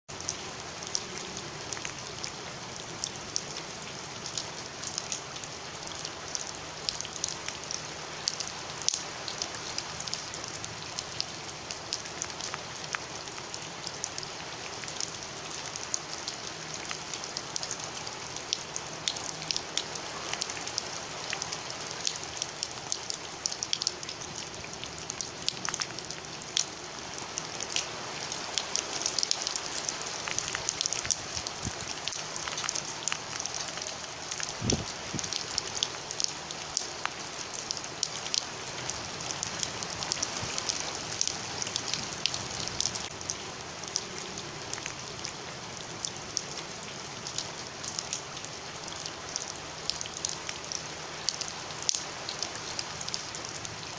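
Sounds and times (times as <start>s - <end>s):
heavy rain on stone paving: 0.1s - 53.9s.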